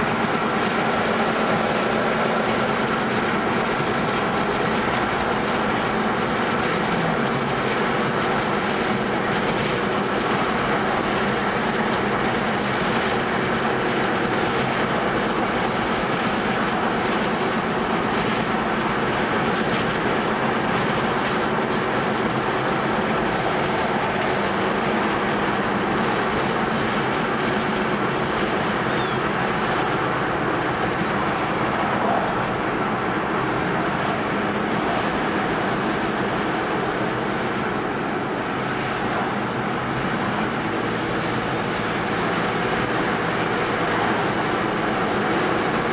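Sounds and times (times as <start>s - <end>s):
car engine drone: 0.0s - 45.9s.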